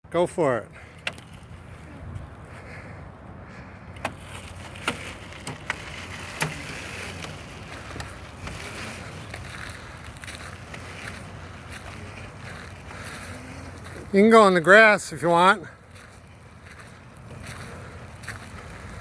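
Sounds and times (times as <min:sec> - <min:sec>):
electric dirt bike whirring: 0:00.9 - 0:19.0.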